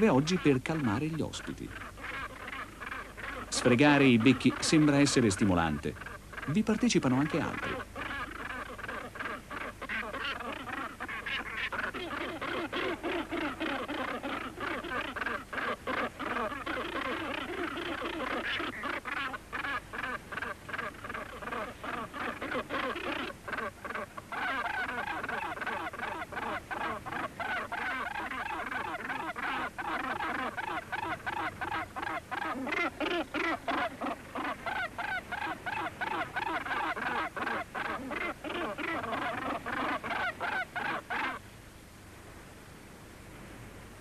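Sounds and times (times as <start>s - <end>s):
gannets calling harshly: 0.0s - 41.4s.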